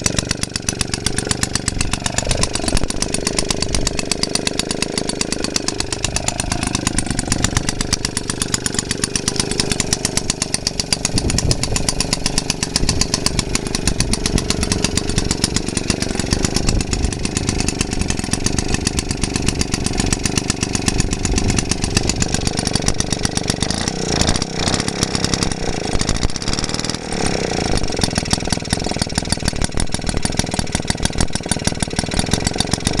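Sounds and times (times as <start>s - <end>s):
stationary engine running: 0.0s - 33.0s.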